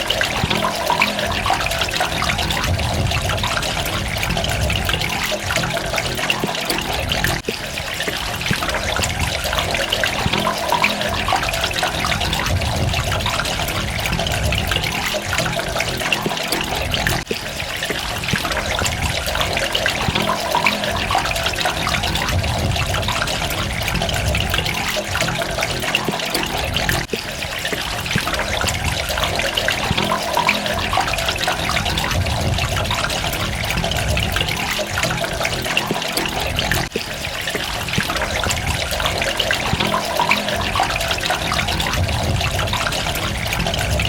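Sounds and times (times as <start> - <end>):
water running and trickling: 0.0 - 44.0.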